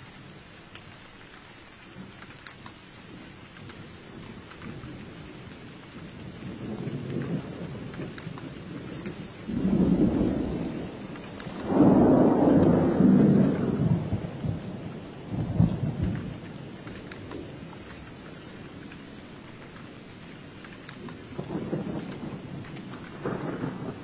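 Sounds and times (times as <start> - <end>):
steady rain: 0.0 - 24.0
thunder rumbling: 3.1 - 24.0.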